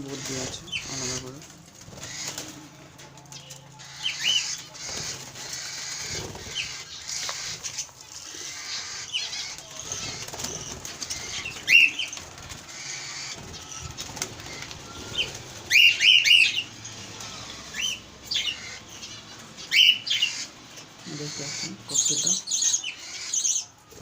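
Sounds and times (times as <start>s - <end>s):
budgerigars and cockatiels chirping: 0.0s - 24.0s.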